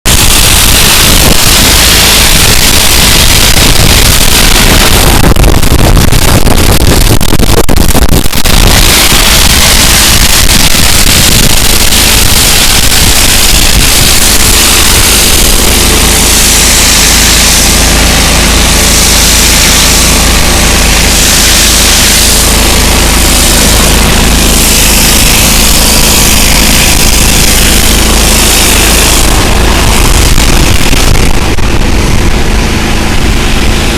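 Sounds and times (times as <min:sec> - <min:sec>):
pressure washer engine drone: 0:00.0 - 0:33.9
high-pressure water jet hiss: 0:00.1 - 0:33.9.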